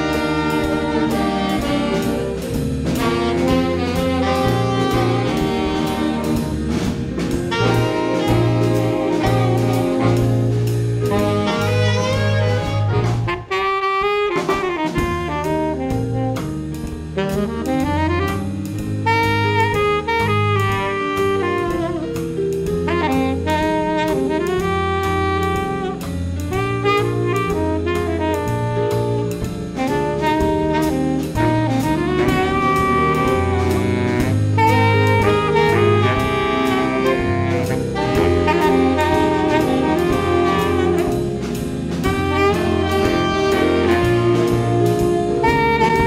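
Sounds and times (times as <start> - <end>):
keyboard: 0.0 - 13.5, 14.6 - 46.0
saxophone section in harmony: 0.0 - 16.6, 17.2 - 22.3, 22.9 - 46.0
drum kit cymbals: 0.0 - 46.0
electric bass: 0.0 - 46.0.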